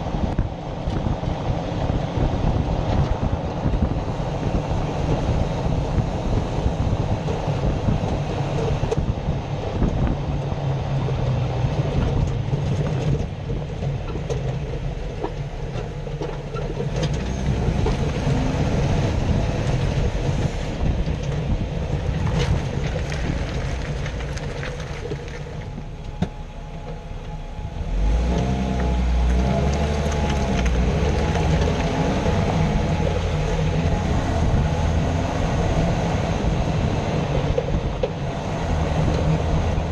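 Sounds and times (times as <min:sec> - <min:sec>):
road and drivetrain rumble: 0:00.0 - 0:39.9.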